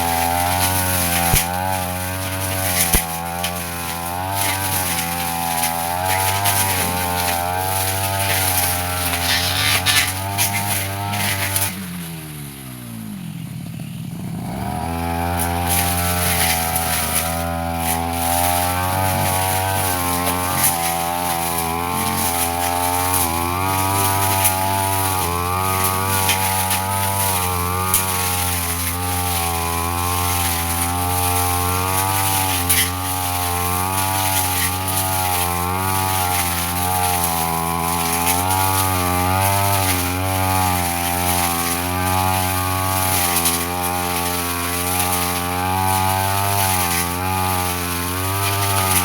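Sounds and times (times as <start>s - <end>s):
blade crackling through grass: 0.0s - 13.1s, 14.4s - 49.0s
brush cutter engine running: 0.0s - 49.0s.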